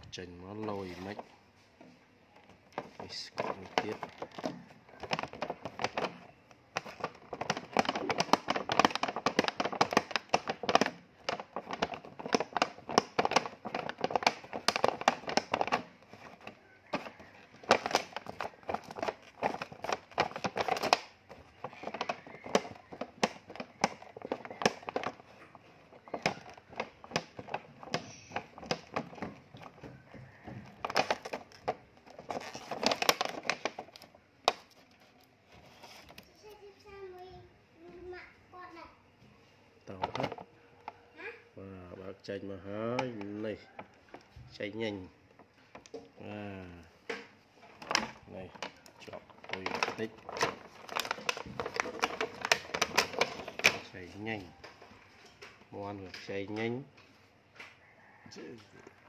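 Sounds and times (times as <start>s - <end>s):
plastic packaging crackling: 0.0s - 1.5s, 2.2s - 37.2s, 39.8s - 40.6s, 41.6s - 56.9s.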